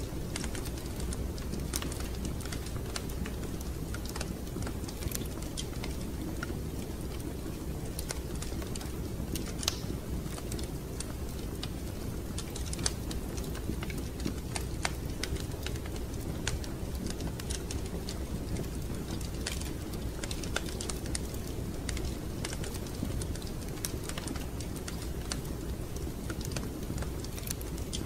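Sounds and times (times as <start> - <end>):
fireplace crackling: 0.0 - 28.0.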